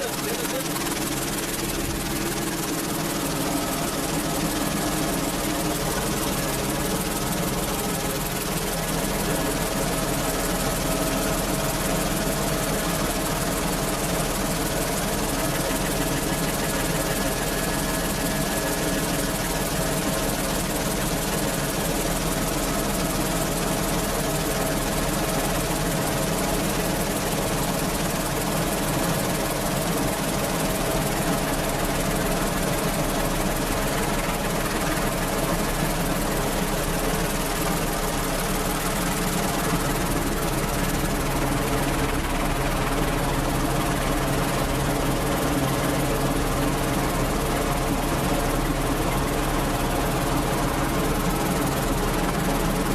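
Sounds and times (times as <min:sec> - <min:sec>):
helicopter turbine and rotors: 0:00.0 - 0:52.9.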